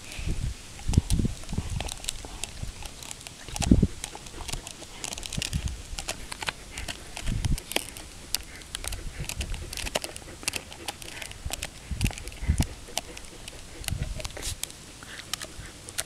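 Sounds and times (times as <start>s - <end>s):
dog gnawing on bone: 0.7s - 16.0s
teeth clicking on bone: 0.8s - 16.0s.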